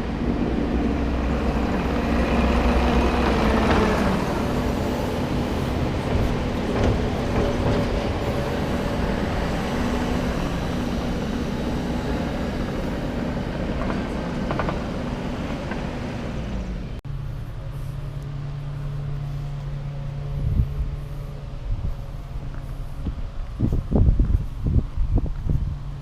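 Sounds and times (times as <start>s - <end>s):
low-pitched engine hum: 0.0s - 26.0s
mechanical and road noise: 0.0s - 26.0s
vehicle engine running: 0.0s - 26.0s.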